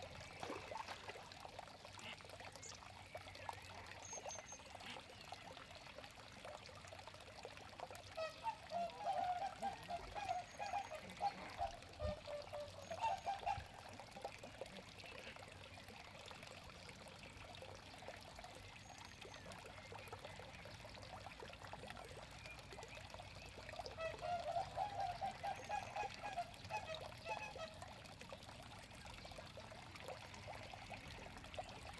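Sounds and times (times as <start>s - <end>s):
water gurgling: 0.0s - 31.9s
water trickling into a pond: 0.0s - 31.9s.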